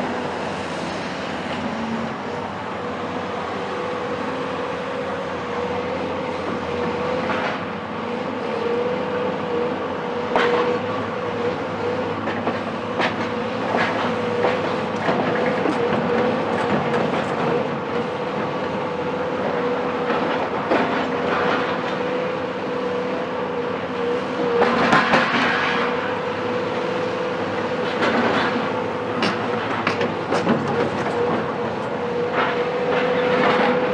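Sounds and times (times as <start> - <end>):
excavator diesel engine whine: 0.0 - 33.9.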